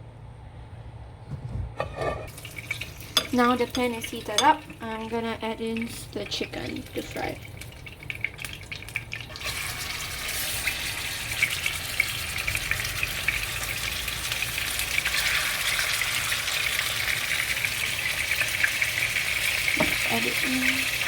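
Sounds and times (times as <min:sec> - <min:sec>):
chicken deep frying in oil: 0:02.3 - 0:21.0.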